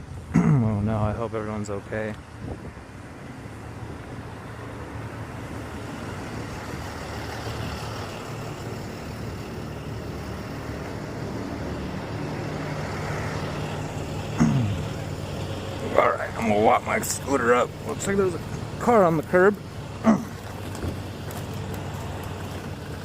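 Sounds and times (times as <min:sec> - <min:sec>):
vehicle engines humming: 0:00.0 - 0:23.0.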